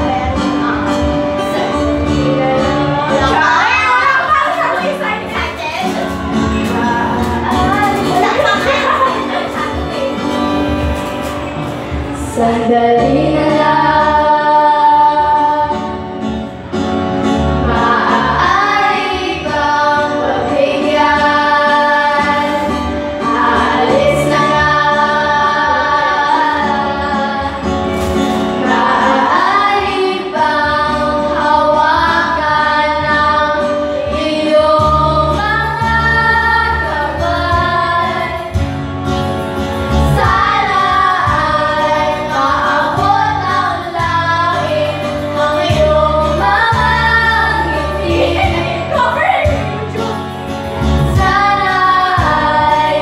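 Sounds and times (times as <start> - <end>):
women singing into microphones: 0.0 - 11.1, 12.2 - 16.1, 17.6 - 38.9, 39.8 - 53.0
karaoke backing track: 0.0 - 53.0.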